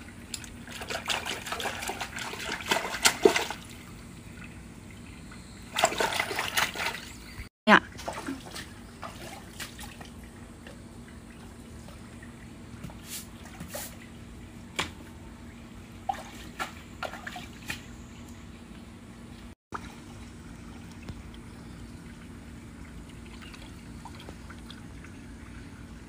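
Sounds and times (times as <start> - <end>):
small splashes and drips: 0.0 - 7.2, 7.9 - 15.1, 16.0 - 18.4, 19.7 - 26.0
water trickling in gutter: 0.0 - 18.3, 19.7 - 26.0
faint steady hum: 0.0 - 26.0.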